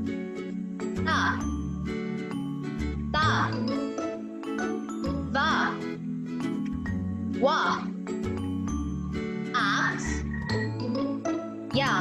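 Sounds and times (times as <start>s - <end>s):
light children's music: 0.0s - 12.0s.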